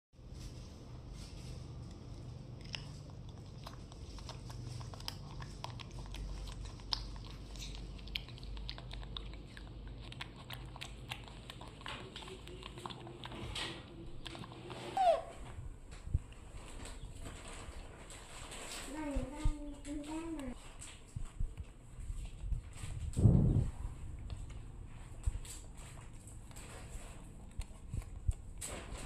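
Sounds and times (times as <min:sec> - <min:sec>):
low steady hum: 0:00.2 - 0:29.0
monkey chewing fruit: 0:01.8 - 0:29.0.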